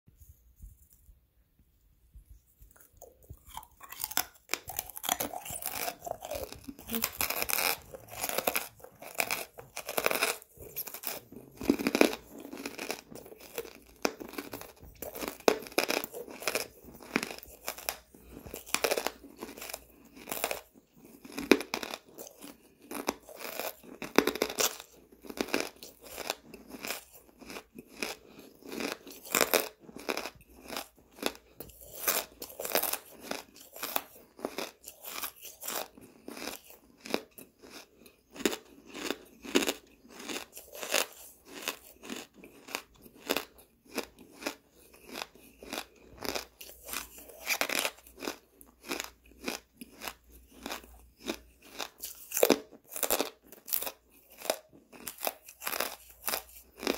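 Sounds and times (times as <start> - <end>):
person chewing charcoal: 2.4 - 56.9.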